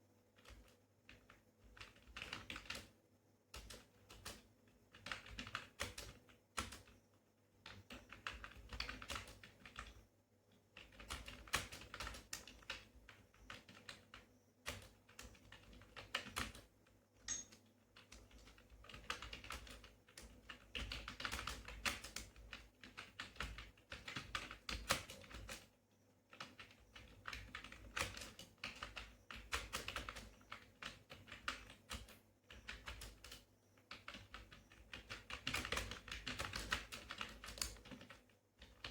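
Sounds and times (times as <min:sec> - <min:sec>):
fast typing on computer keyboard: 0:00.4 - 0:10.0, 0:10.7 - 0:38.9.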